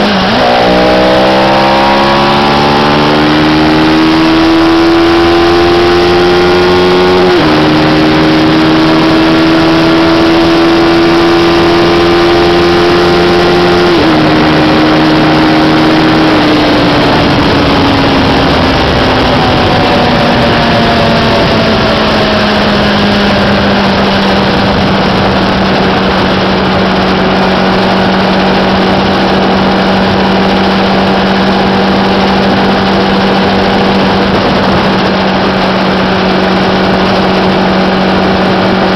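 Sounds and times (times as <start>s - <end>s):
motorcycle engine at speed: 0.0s - 38.9s
wind and road rush: 0.0s - 38.9s.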